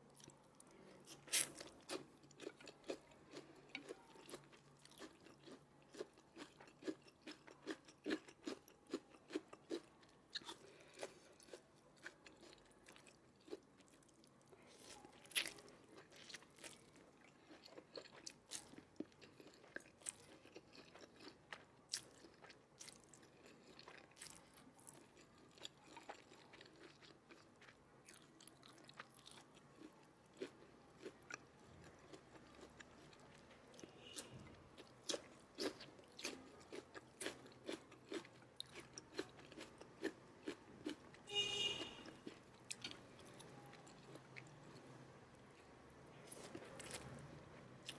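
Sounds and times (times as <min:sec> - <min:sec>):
person chewing food: 0:00.0 - 0:47.9
food crunch: 0:00.1 - 0:47.9.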